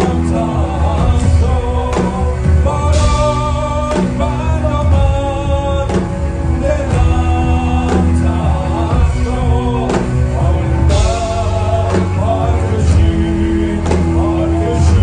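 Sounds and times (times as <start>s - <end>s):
drum kit hits: 0.0s - 15.0s
guitars: 0.0s - 15.0s
person singing lead: 0.0s - 15.0s
upright double bass: 0.0s - 15.0s.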